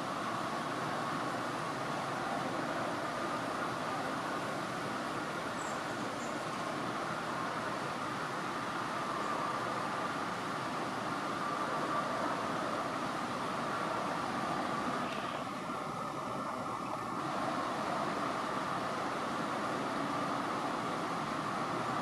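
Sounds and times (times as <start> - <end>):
steady background hum and hiss: 0.0 - 22.0.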